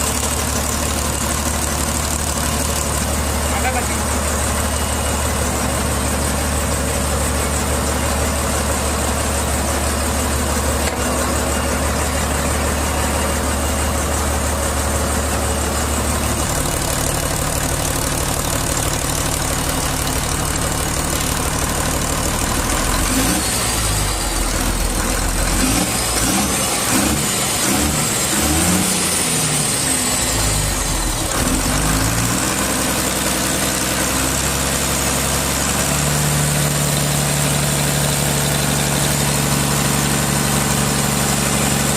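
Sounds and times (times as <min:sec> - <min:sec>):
marine diesel engine running: 0:00.0 - 0:41.9.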